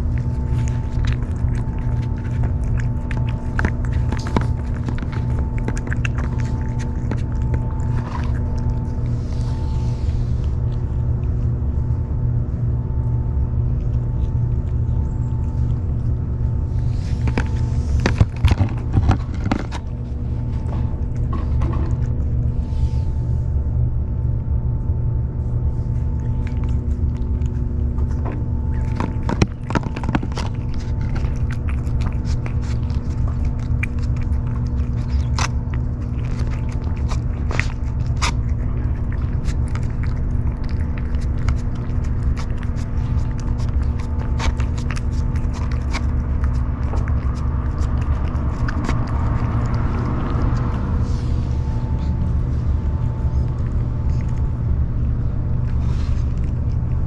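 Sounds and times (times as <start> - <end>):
cat chewing and licking: 0.0 - 57.0
constant hum: 0.0 - 57.0
low rumble: 0.0 - 57.0.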